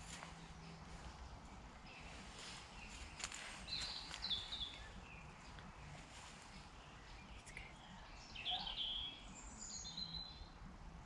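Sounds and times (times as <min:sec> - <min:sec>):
faint bird chirps: 0:00.2 - 0:10.6.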